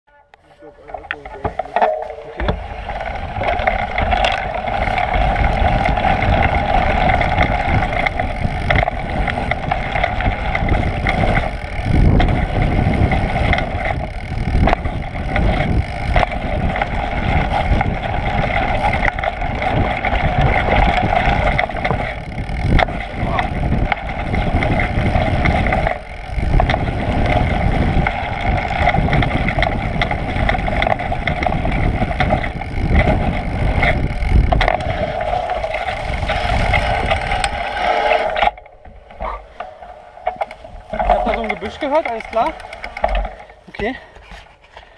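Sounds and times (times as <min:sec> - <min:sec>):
wind buffeting microphone: 0:00.6 - 0:44.9
dirt bike engine running hard: 0:00.9 - 0:44.9.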